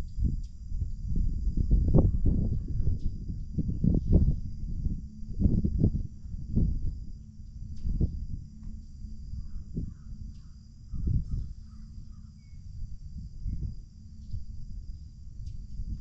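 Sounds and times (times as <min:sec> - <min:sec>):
insects chorus: 0:00.0 - 0:16.0
wind gusting on microphone: 0:00.0 - 0:16.0.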